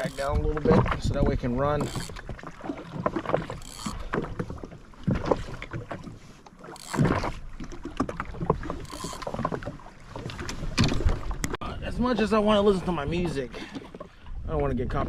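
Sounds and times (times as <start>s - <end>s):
water splashes: 0.0s - 14.2s
water slapping against hull: 0.0s - 15.0s.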